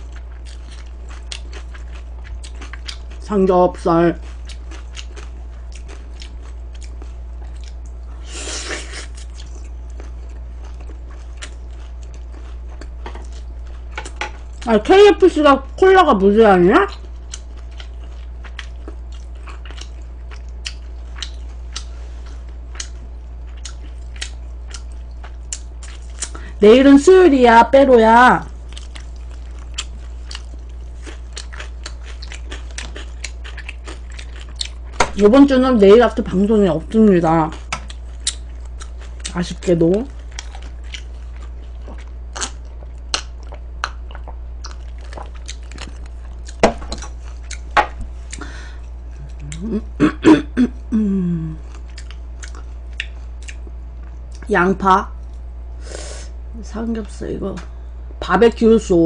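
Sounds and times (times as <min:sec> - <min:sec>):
person chewing crunchy food: 0:00.0 - 0:14.7, 0:16.9 - 0:26.5, 0:28.5 - 0:35.2, 0:36.3 - 0:54.5
low hum: 0:00.0 - 0:59.0.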